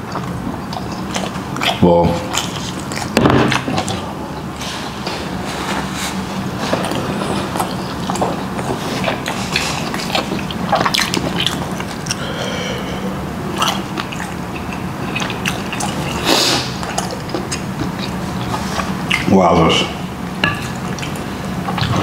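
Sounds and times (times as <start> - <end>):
wet chewing and smacking: 0.0 - 12.4, 13.4 - 22.0
steady low hum: 0.0 - 22.0.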